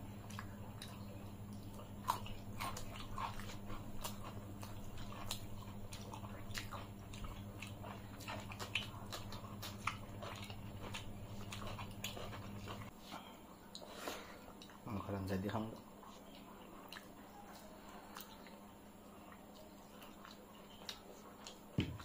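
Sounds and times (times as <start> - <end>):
people chewing with lip smacks: 0.0 - 22.0.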